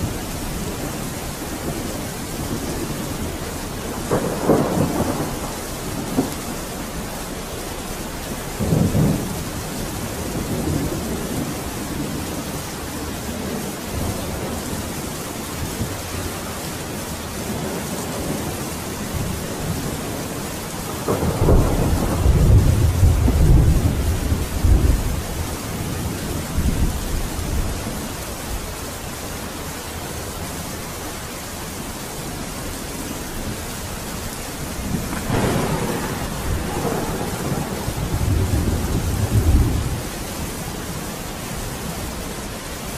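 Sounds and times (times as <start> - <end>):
rolling thunder: 0.0 - 28.1, 34.6 - 42.1
steady rain: 0.0 - 42.9.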